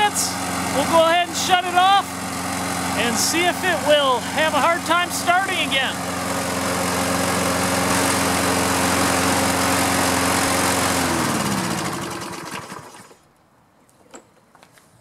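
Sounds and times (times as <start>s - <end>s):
lawn mower engine winding down: 0.0s - 13.2s.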